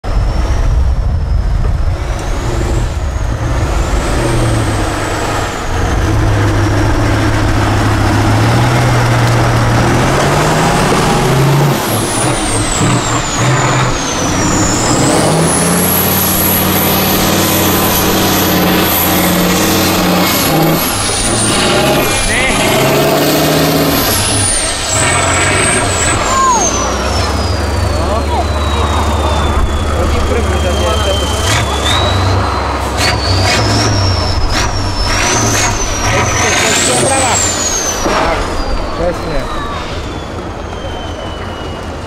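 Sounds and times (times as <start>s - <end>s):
diesel truck engine under load: 0.0s - 42.0s
high whine: 0.0s - 42.0s.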